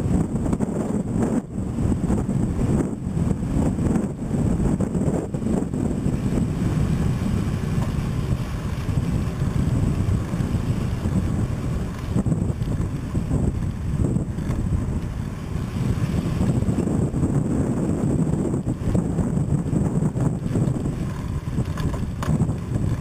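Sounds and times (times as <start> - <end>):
tyres rumbling on asphalt: 0.0 - 23.0
wind buffeting microphone: 0.0 - 23.0.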